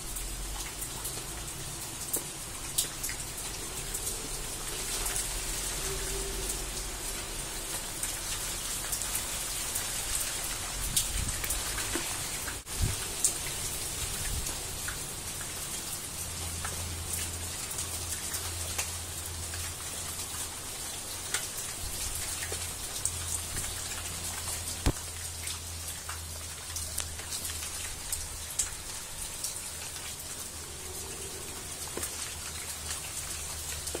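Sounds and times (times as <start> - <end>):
pouring rain: 0.0 - 34.0.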